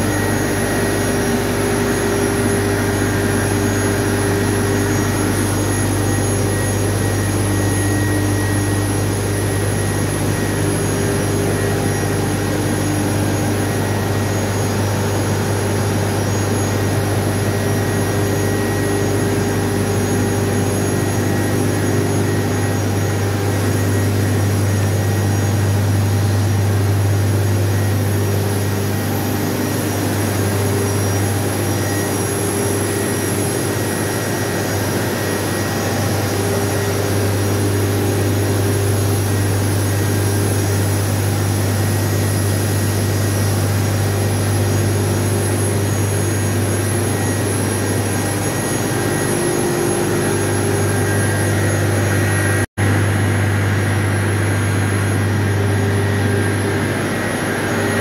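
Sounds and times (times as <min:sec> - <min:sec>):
thin high whine: 0:00.0 - 0:58.0
turbine generator droning: 0:00.0 - 0:58.0.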